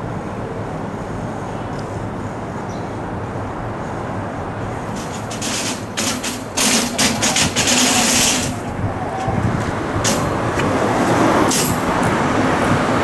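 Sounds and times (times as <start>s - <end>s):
tram low rumble: 0.0s - 13.0s.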